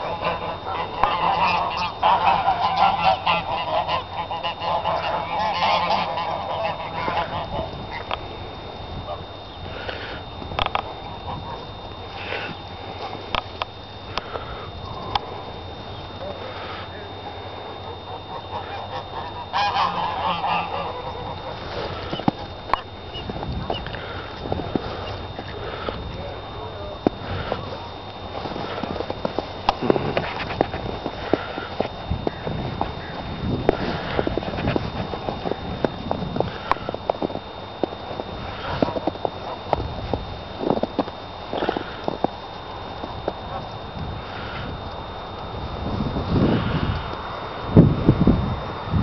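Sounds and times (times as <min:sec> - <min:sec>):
waterfowl calling: 0:00.0 - 0:37.3, 0:38.1 - 0:39.8, 0:40.6 - 0:44.8.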